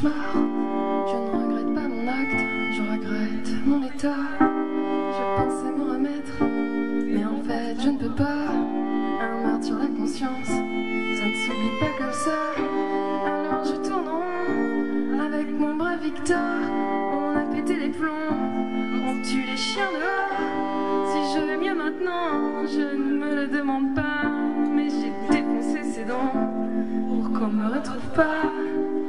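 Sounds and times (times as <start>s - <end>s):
violin bowed notes: 0.0s - 29.0s.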